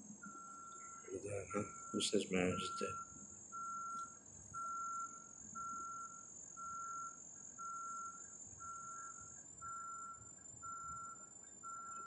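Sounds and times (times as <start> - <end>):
high insect trill: 0.2 - 12.0
reversing alarm beeping: 0.2 - 12.0.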